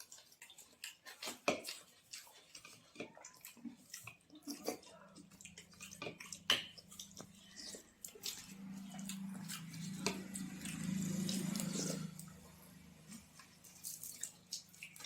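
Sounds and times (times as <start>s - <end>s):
people chewing and lip smacking: 0.0s - 15.0s.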